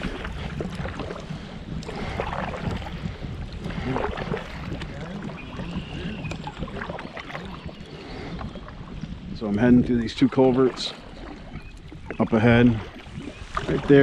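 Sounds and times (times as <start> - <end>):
paddle strokes swishing in water: 0.0 - 14.0
wind buffeting microphone: 0.0 - 14.0.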